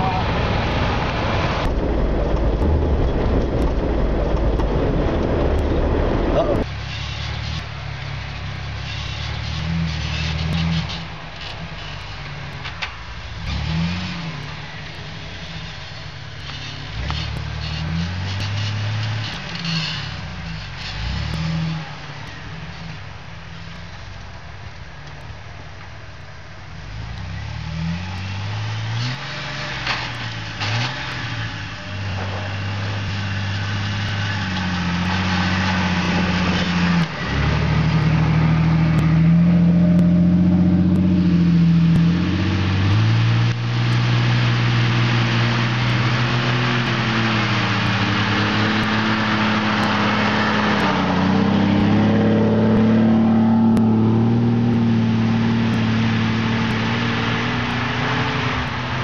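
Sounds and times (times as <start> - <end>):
off-road engines revving: 0.0 - 59.0.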